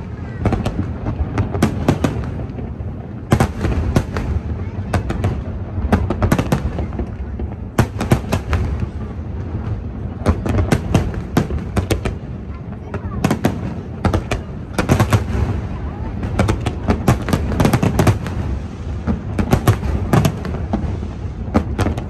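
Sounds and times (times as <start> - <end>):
fireworks bangs and cracks: 0.0 - 22.0.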